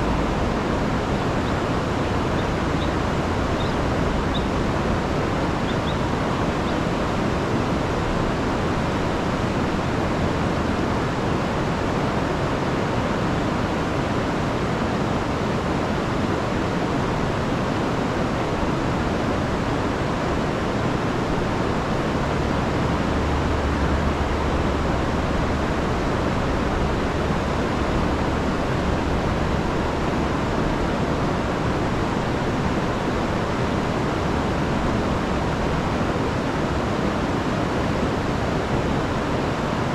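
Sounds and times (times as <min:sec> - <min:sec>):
river rushing over falls: 0:00.0 - 0:39.9.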